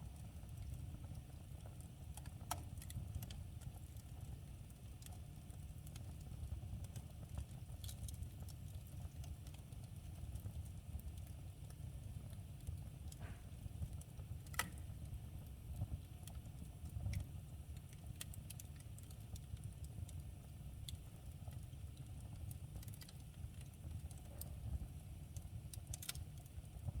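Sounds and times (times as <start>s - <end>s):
low fire rumble: 0.0s - 27.0s
wood fire crackling and popping: 0.0s - 27.0s.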